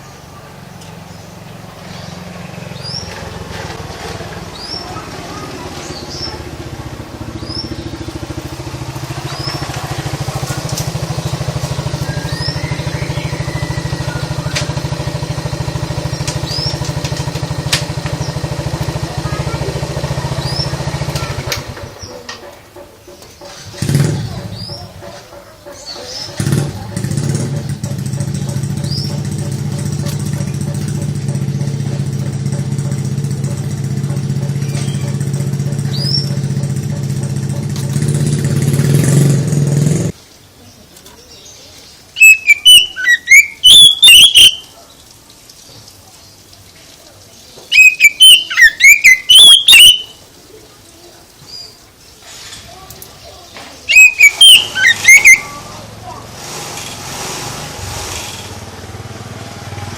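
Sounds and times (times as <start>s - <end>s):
motor engine running: 0.0s - 40.2s, 47.7s - 50.2s, 53.9s - 59.9s
bird chirping: 4.4s - 38.1s, 40.3s - 56.2s.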